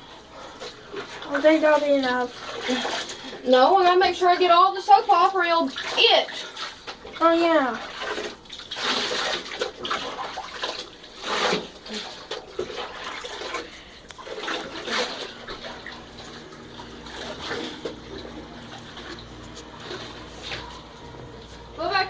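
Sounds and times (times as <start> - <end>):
water splashing in bathtub: 0.0 - 22.0.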